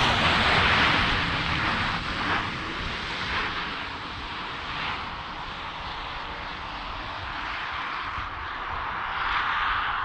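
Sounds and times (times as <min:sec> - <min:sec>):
wind noise: 0:00.0 - 0:10.0.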